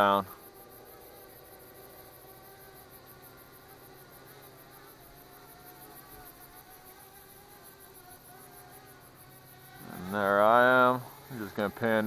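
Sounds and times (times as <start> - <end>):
drone rotors humming: 0.0 - 12.0.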